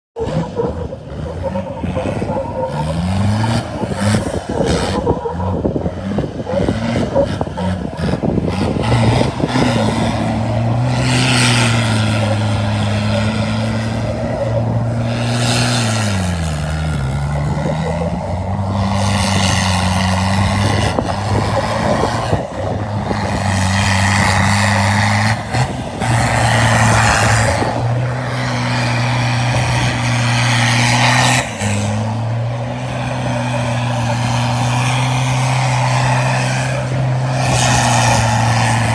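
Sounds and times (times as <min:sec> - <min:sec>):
off-road engine running hard: 0:00.2 - 0:38.9.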